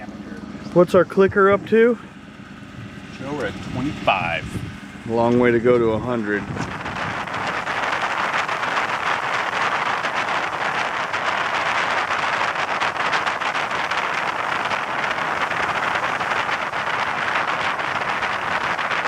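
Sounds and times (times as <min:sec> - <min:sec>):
water spray from fast boats: 0:00.0 - 0:19.0
wind rushing: 0:00.8 - 0:19.0.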